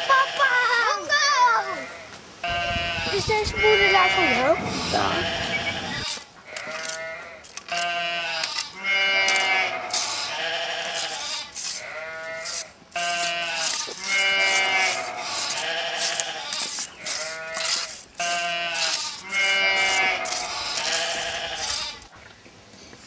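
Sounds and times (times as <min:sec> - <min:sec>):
farm animals bleating: 0:00.0 - 0:00.9, 0:01.6 - 0:22.1.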